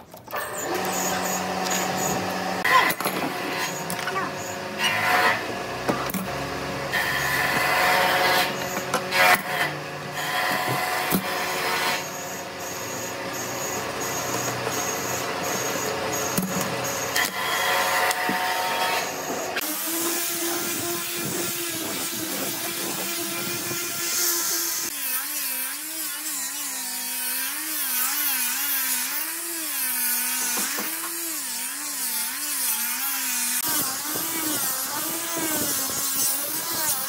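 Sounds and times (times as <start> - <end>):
steady mechanical hum: 0.0 - 37.0
angle grinder sanding wood: 0.5 - 37.0.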